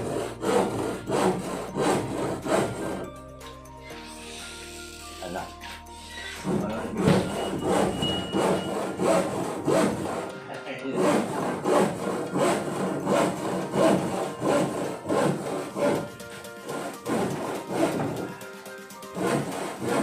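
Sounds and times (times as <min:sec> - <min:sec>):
hand saw cutting wood: 0:00.0 - 0:20.0.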